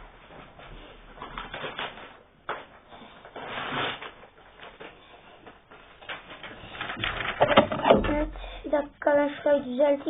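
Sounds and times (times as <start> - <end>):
rustling and handling noises: 0.0 - 8.3.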